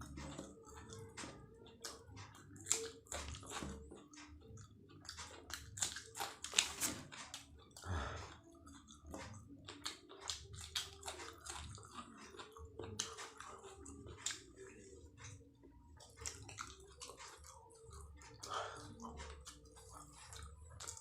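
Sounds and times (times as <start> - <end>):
close chewing with mouth smacks: 0.0 - 21.0.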